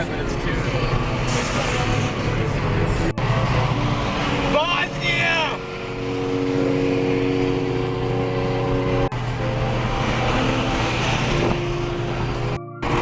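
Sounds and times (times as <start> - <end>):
car engine running: 2.4 - 13.0.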